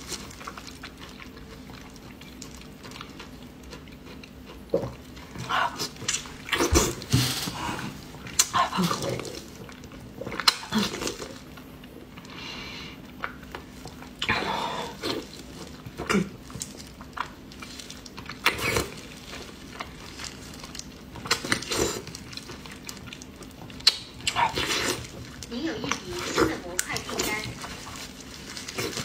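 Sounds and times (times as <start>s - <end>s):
wet chewing and sucking: 0.0s - 29.0s.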